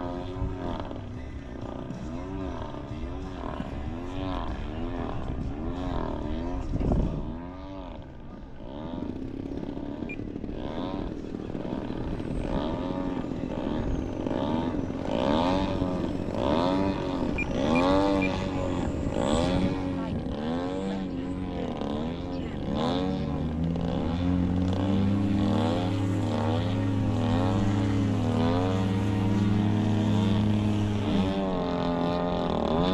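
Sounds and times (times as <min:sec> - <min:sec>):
model airplane motor buzzing: 0:00.0 - 0:32.9.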